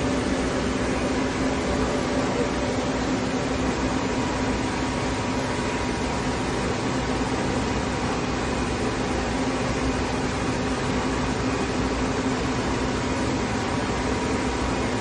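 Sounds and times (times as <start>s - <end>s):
fan-like hiss: 0.0s - 15.0s
machine hum: 0.0s - 15.0s.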